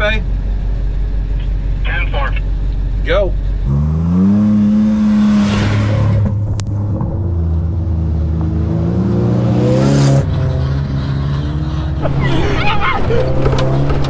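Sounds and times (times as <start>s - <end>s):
off-road vehicle engine revving: 1.4s - 14.0s.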